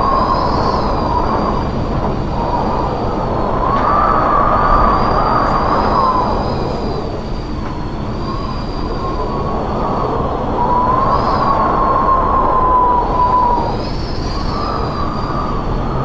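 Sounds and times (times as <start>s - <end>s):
strong wind howling: 0.0s - 16.0s.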